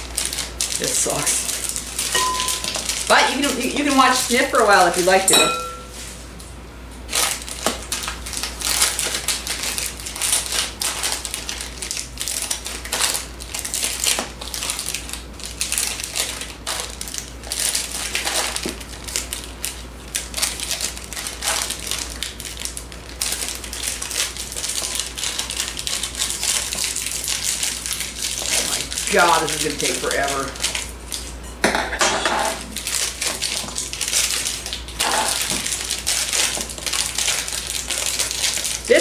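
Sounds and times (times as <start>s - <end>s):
plastic wrappers crinkling: 0.0s - 6.2s, 7.1s - 31.4s, 32.5s - 39.0s.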